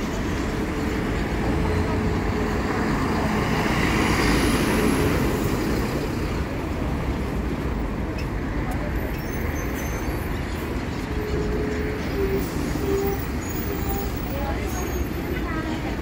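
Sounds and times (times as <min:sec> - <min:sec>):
bus driving past: 0:00.0 - 0:16.0
street traffic noise: 0:00.0 - 0:16.0.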